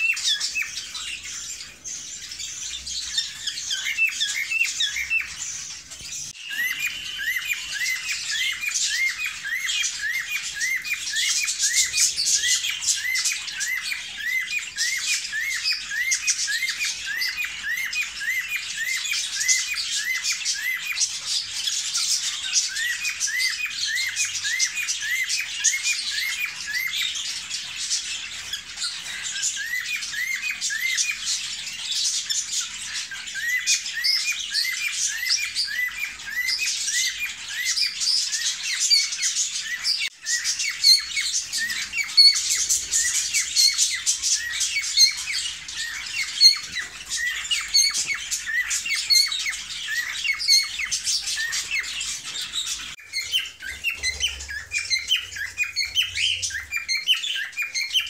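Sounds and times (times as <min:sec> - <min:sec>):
bird chirps and squawks: 0:00.0 - 0:58.0
cockatiels whistling: 0:00.0 - 0:58.0.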